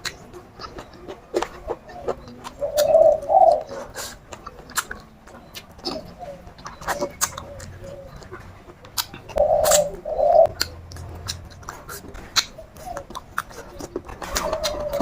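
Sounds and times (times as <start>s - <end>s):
wet chewing and mouth clicks: 0.0s - 15.0s
dove cooing: 0.6s - 15.0s.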